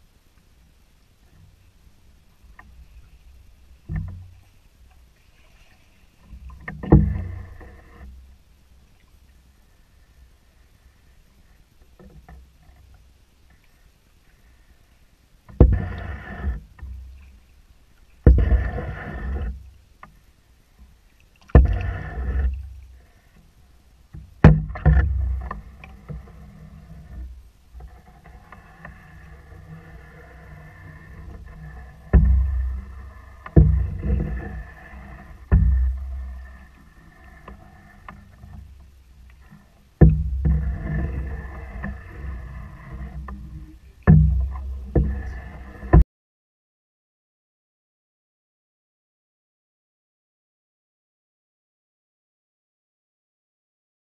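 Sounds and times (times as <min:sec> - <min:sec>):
paddle strokes in water: 0:00.0 - 0:46.0.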